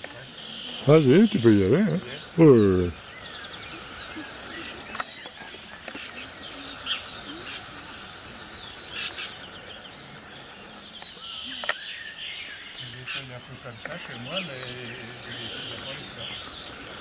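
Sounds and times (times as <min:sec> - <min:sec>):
faint steady background noise: 0:00.0 - 0:17.0
songbirds chirping and trilling: 0:00.0 - 0:17.0.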